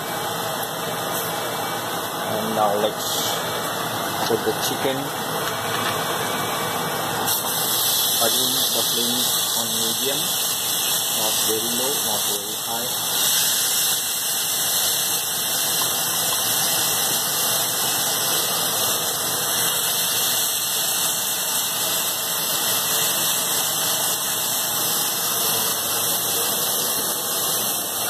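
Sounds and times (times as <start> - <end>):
food sizzling in frying pan: 5.3 - 28.0.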